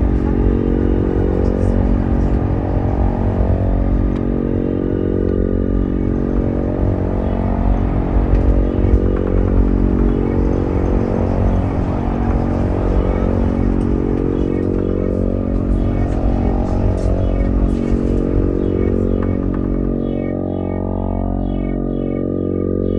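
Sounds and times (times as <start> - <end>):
tram electrical hum: 0.0 - 22.9
wheels rumbling on track: 0.0 - 22.9.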